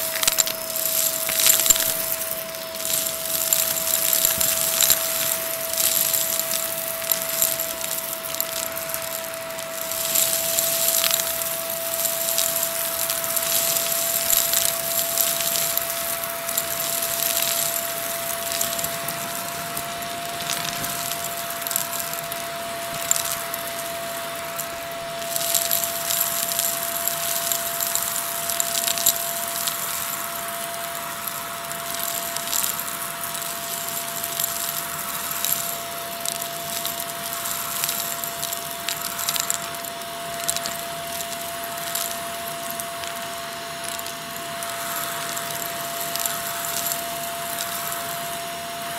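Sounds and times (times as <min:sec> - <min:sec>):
rubber bands rattling up tube: 0:00.0 - 0:48.2
vacuum cleaner motor whine: 0:00.0 - 0:48.9.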